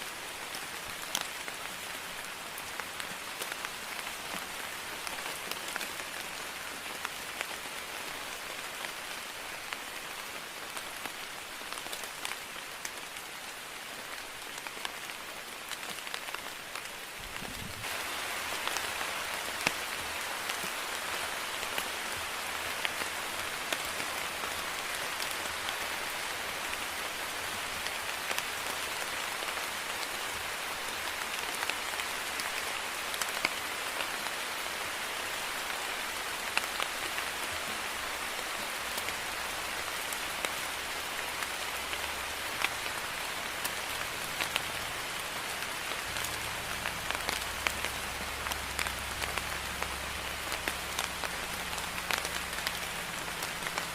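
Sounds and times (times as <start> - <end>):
steady rain pattering: 0.0 - 53.9.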